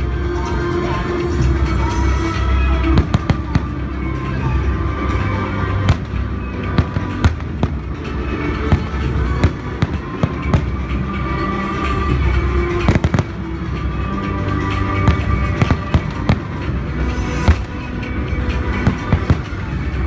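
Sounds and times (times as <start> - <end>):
music with heavy bass: 0.0 - 20.0
fireworks banging: 1.4 - 20.0.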